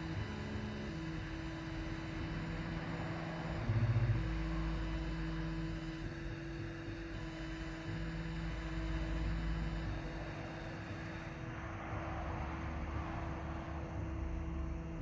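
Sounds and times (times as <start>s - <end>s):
laser machine motors humming: 0.0s - 15.0s.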